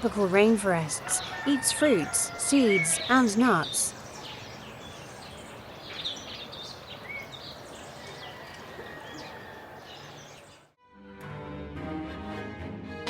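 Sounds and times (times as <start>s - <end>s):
birds chirping: 0.0s - 10.7s
outdoor ambience hiss: 0.0s - 10.8s.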